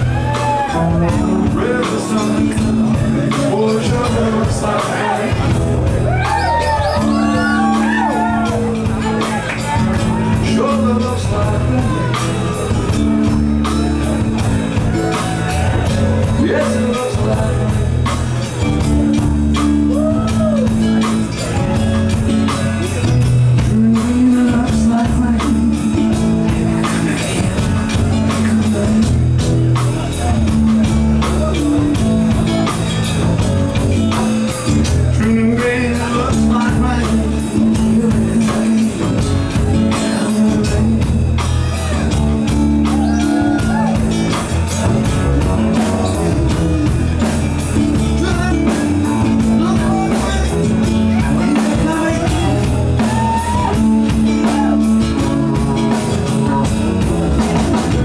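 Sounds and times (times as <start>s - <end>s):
acoustic guitar strumming: 0.0s - 58.0s
man singing: 0.0s - 58.0s
sustained bass notes: 0.0s - 58.0s.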